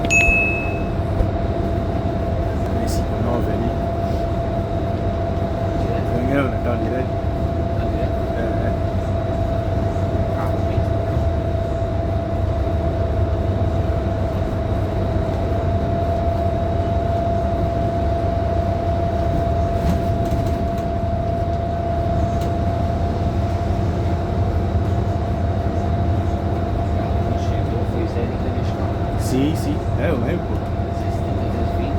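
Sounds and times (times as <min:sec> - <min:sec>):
bus engine and road rumble: 0:00.0 - 0:31.9.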